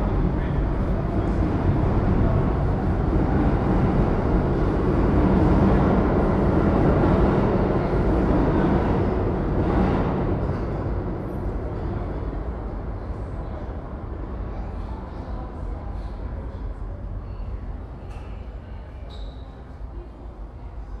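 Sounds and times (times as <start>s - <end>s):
subway train rumbling: 0.0s - 21.0s.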